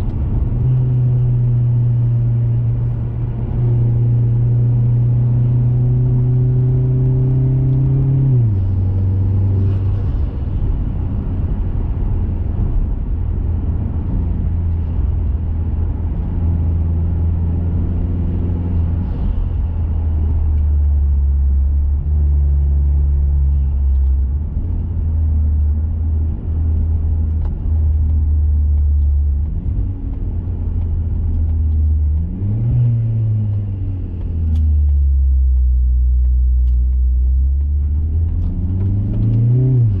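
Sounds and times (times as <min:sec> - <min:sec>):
tyre and road noise: 0:00.0 - 0:40.0.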